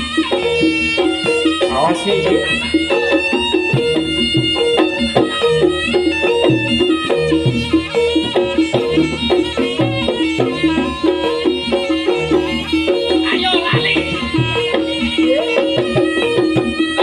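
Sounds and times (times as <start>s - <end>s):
traditional dance music with drums: 0.0s - 17.0s.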